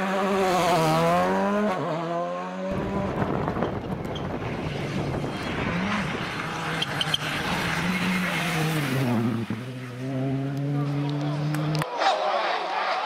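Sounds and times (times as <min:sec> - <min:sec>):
rally car rumbling past: 0:00.0 - 0:11.8
rally car engine revving: 0:00.0 - 0:13.0.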